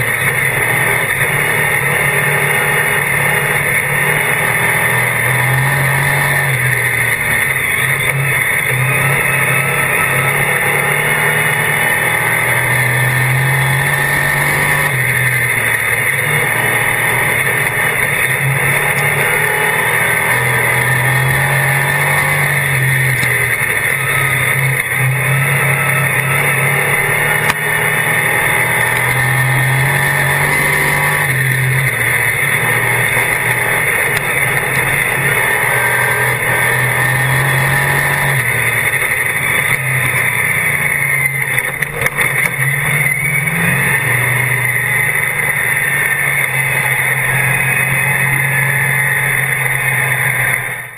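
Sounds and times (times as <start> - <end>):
race car engine running hard: 0.0 - 50.9.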